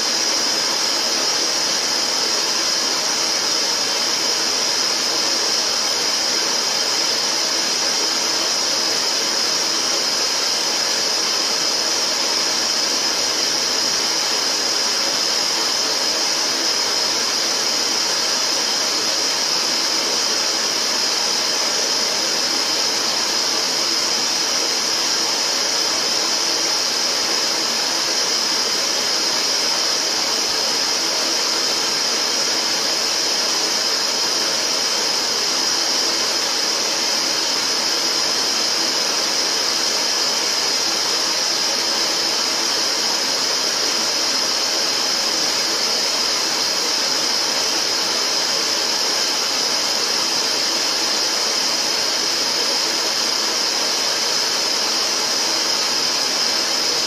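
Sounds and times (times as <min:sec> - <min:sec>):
steady synthetic hiss: 0:00.0 - 0:57.0.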